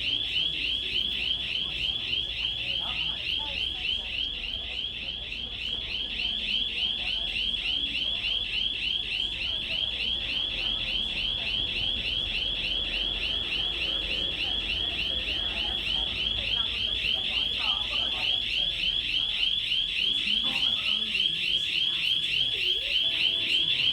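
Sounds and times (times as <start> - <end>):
high electronic alarm warble: 0.0 - 23.9.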